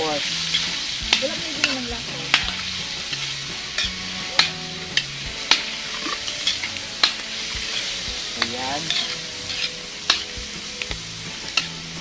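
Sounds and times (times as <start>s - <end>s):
pork sizzling in hot oil: 0.0s - 12.0s
spatula scraping a wok: 0.0s - 12.0s.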